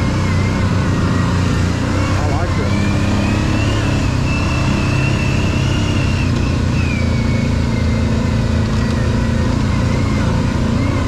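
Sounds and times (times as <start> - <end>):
atv engine running: 0.0 - 11.0
high engine whine: 0.0 - 11.0.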